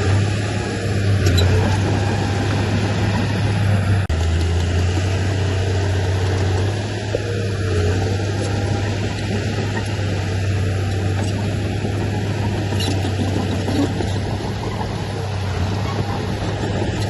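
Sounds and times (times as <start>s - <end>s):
heavy diesel machinery humming: 0.0s - 17.0s.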